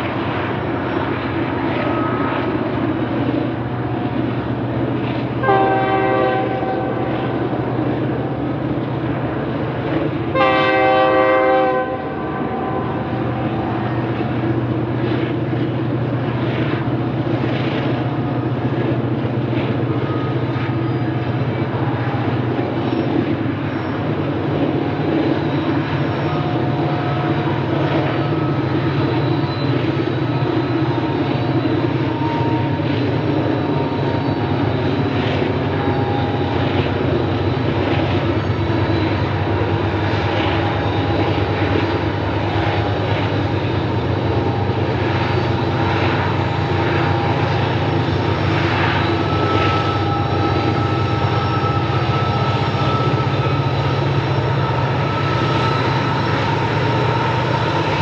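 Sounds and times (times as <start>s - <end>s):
locomotive engines droning: 0.0s - 58.0s.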